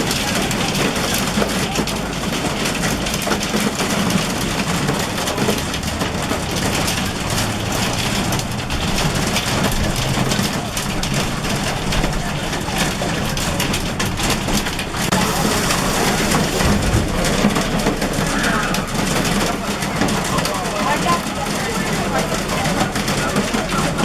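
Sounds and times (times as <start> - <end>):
hail pelting down: 0.0 - 24.0.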